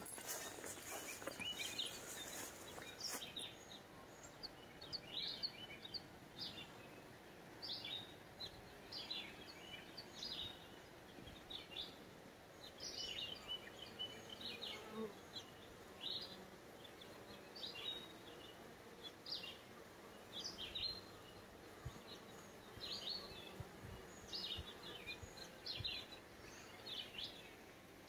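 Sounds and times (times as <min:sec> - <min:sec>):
birds chirping: 0:00.0 - 0:27.6
soft steady hiss: 0:00.0 - 0:28.0.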